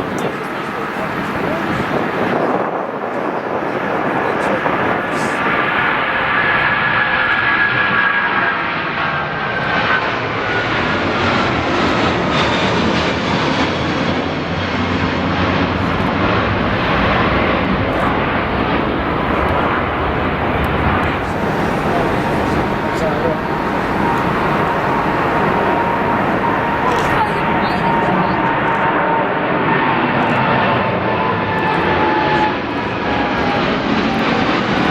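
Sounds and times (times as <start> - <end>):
jet airliner engines roaring: 0.0 - 34.9.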